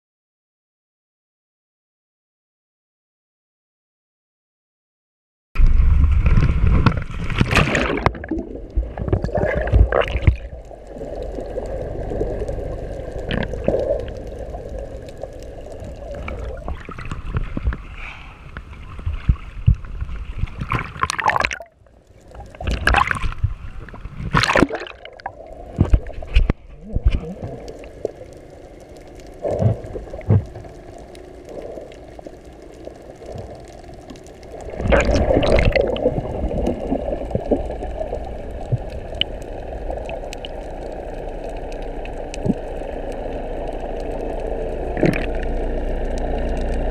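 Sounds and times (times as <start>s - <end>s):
underwater bubbling: 5.6s - 46.9s
water gurgling and sloshing: 5.6s - 46.9s
water splashing: 5.6s - 46.9s.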